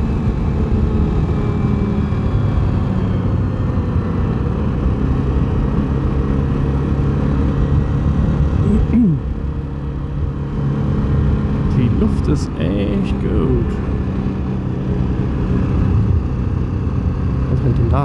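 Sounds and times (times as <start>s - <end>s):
engine tone falling in pitch: 0.0s - 18.0s
quad engine running: 0.0s - 18.0s.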